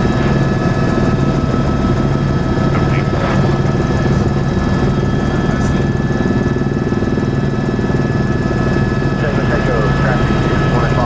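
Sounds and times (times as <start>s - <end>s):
helicopter rotor and engine noise: 0.0s - 11.0s.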